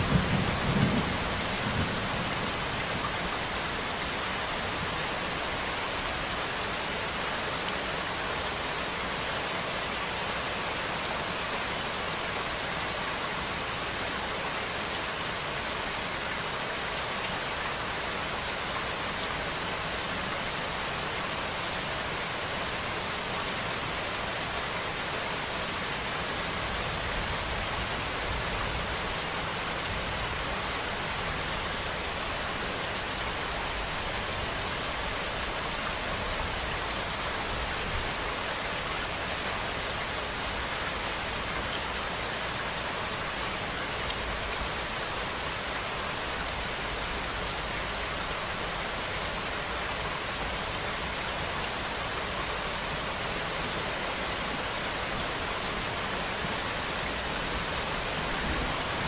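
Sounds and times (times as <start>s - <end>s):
rain hissing on surfaces: 0.0s - 59.0s.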